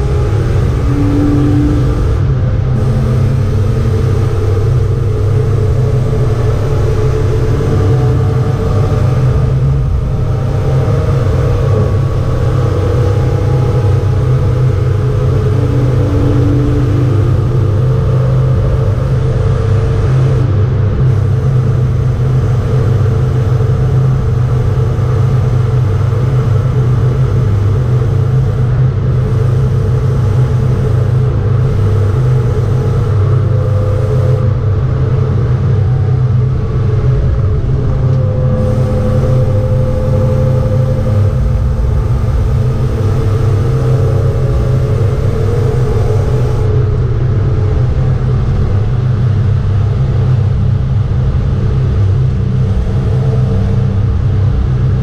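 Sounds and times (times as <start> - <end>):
car engine running from inside cabin: 0.0 - 55.0.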